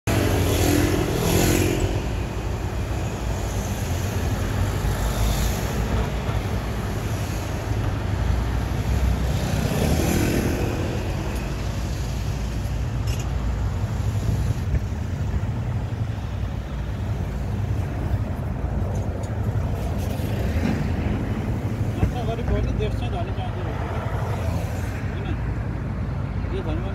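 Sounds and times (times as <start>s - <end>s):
cars driving past: 0.1s - 26.9s
steady low traffic rumble: 0.1s - 26.9s.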